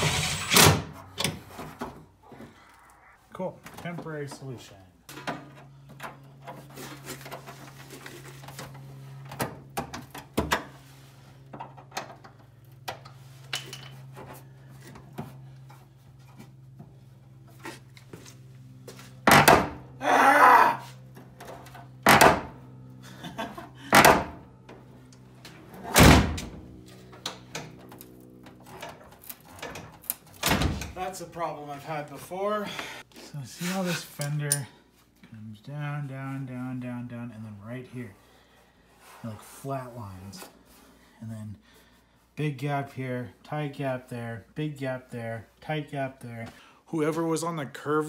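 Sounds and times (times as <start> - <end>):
steady low hum: 0.2 - 46.9.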